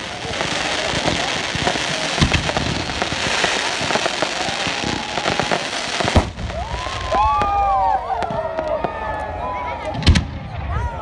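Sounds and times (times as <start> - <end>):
loud firework bangs: 0.0 - 9.1
fireworks crackling: 0.0 - 10.7.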